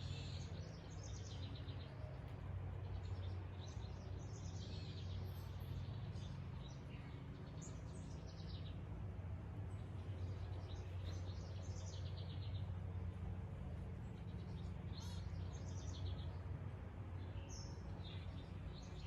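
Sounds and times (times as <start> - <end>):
songbirds singing: 0.0 - 19.0
steady low hum: 0.0 - 19.0.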